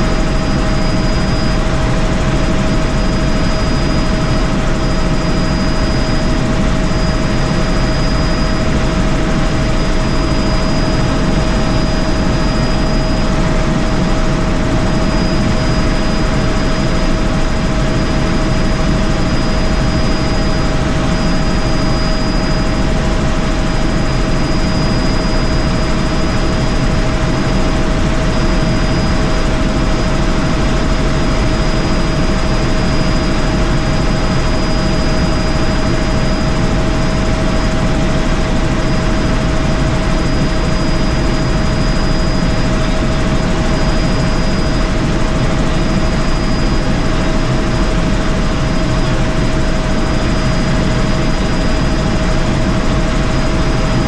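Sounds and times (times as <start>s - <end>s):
constant whine: 0.0s - 54.0s
helicopter rotor and engine noise: 0.0s - 54.0s.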